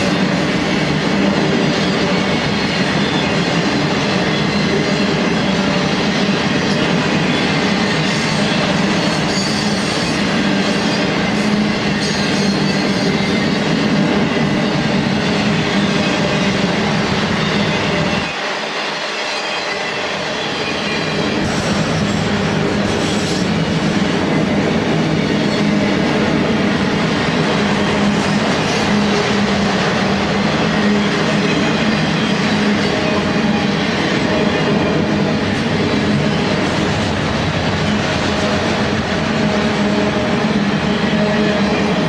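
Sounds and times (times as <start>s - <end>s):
train wheels on rails: 0.0s - 42.0s.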